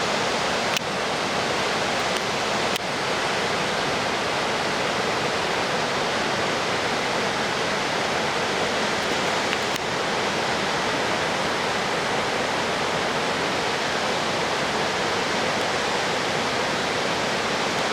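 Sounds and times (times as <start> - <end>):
water rushing: 0.0 - 17.9.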